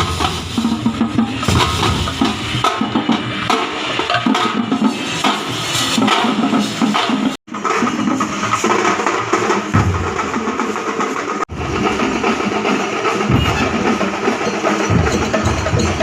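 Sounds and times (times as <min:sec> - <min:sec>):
loud fast drumming and percussion: 0:00.0 - 0:16.0.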